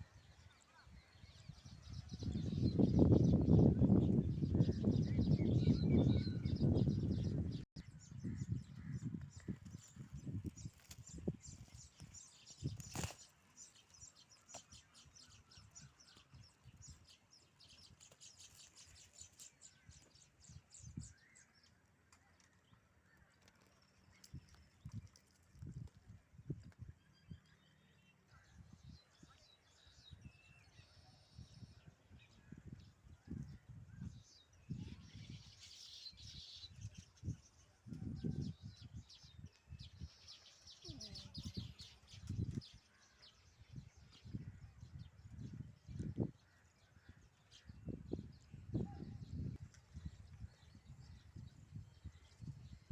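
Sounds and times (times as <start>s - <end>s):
weaver birds chattering: 0.2s - 25.4s, 27.1s - 52.9s.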